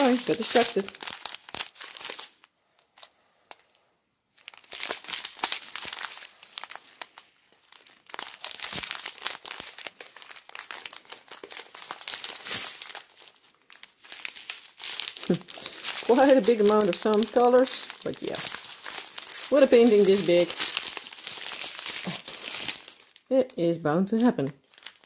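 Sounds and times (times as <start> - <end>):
plastic bags crinkling: 0.0 - 25.0.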